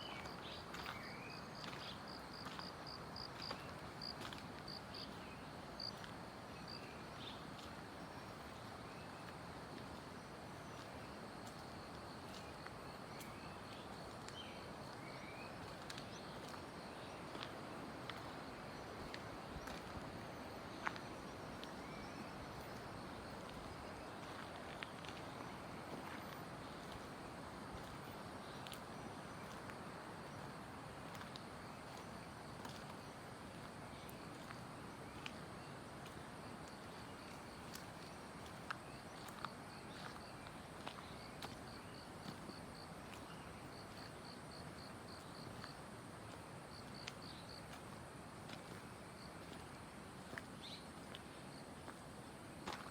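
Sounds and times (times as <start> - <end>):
footsteps on trail: 0.0 - 52.9
steady low hiss: 0.0 - 52.9.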